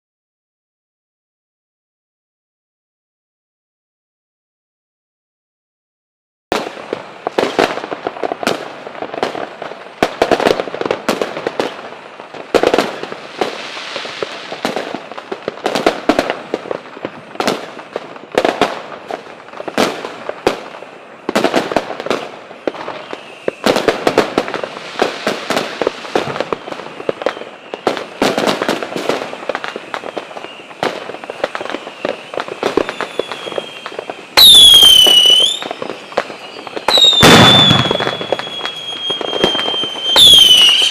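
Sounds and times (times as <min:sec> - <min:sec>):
fireworks bangs and crackles: 0:06.5 - 0:40.9
whistling firework: 0:06.5 - 0:40.9.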